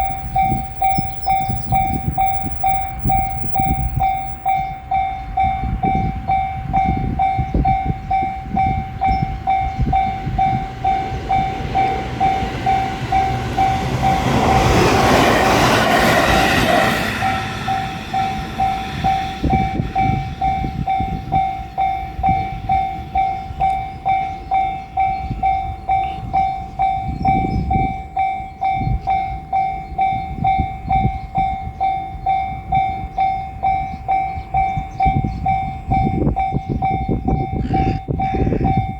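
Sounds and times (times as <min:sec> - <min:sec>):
level-crossing warning bell: 0:00.0 - 0:38.9
train wheels rumbling on rail: 0:00.0 - 0:38.9.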